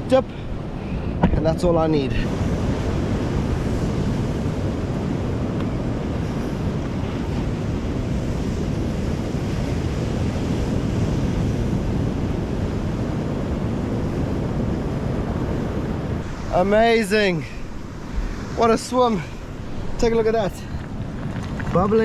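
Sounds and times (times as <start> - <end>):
ocean surf on shore: 0.0 - 22.0
wind buffeting microphone: 0.0 - 22.0.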